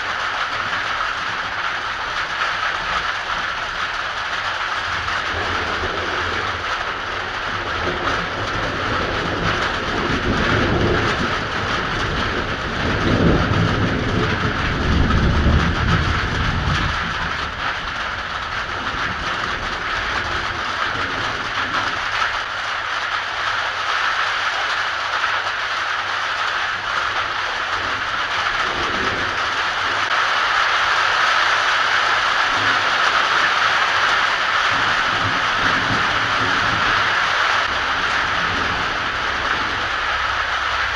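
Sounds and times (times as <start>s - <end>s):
rolling thunder rumble: 0.0s - 23.8s, 25.4s - 40.9s
heavy rain: 0.0s - 40.9s.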